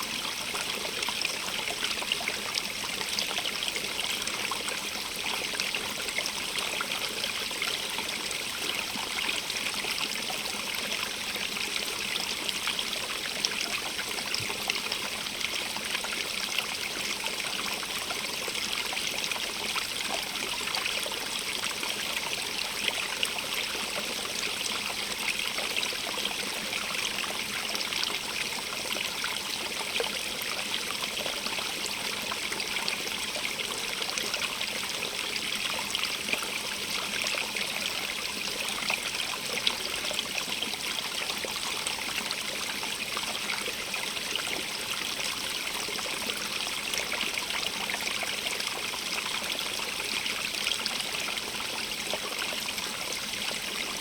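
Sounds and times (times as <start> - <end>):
stream water over stones: 0.0 - 54.0.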